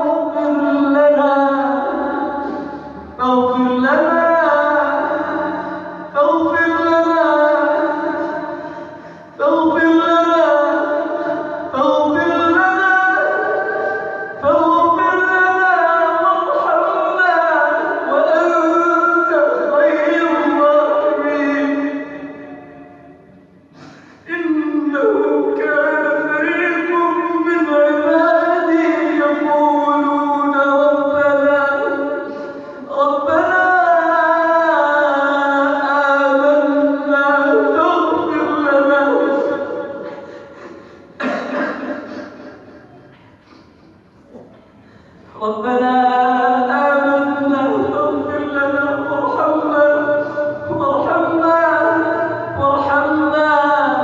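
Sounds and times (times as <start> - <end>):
man reciting melodically: 0.0 - 43.8, 44.8 - 54.0.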